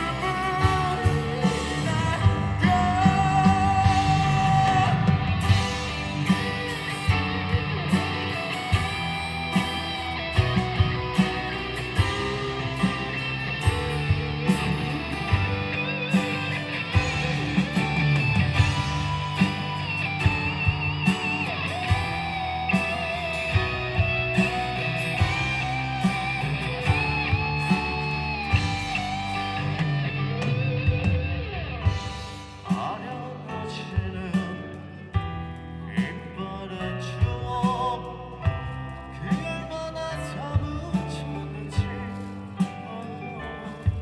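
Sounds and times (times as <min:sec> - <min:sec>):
guitar melody: 0:00.0 - 0:44.0
rock band playing instrumental: 0:00.0 - 0:44.0
steady drum beat: 0:00.0 - 0:44.0.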